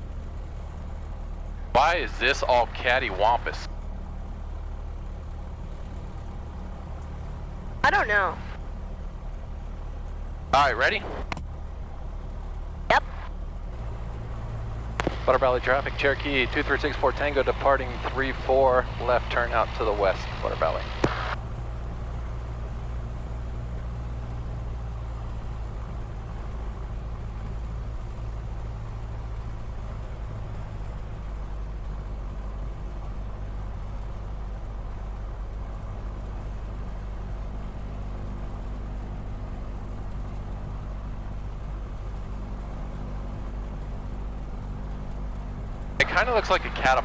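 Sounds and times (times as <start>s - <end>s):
aircraft piston engine humming: 0.0s - 47.0s.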